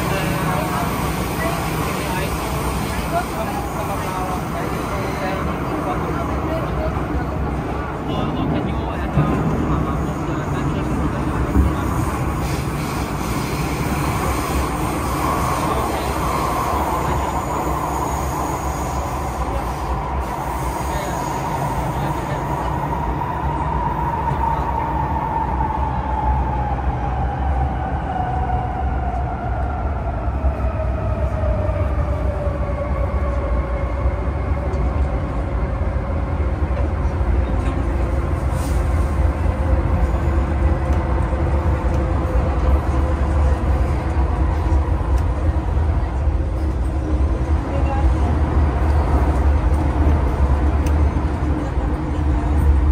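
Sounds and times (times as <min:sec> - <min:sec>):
wheels rumbling on rail: 0:00.0 - 0:52.9.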